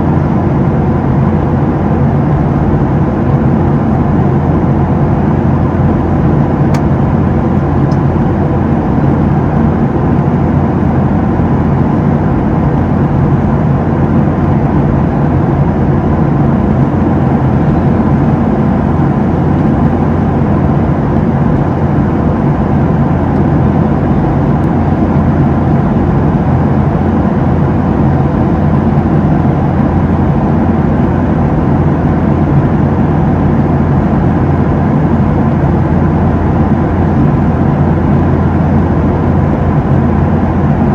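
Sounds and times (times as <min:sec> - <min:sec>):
jet engine roar in cabin: 0:00.0 - 0:40.9
low hum: 0:00.0 - 0:40.9.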